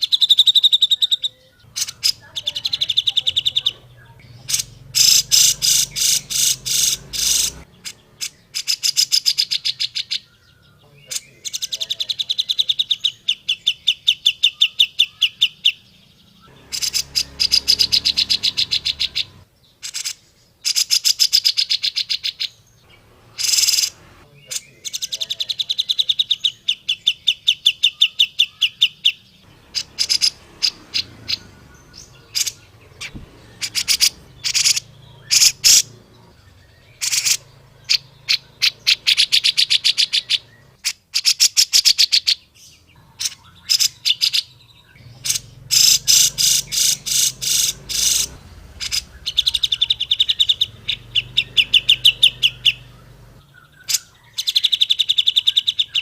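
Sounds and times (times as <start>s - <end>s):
bird chattering trills: 0.0s - 56.0s.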